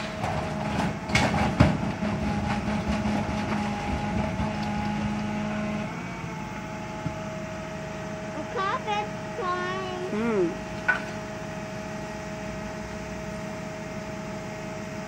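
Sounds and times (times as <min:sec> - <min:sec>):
hydraulic compactor hum: 0:00.0 - 0:15.0.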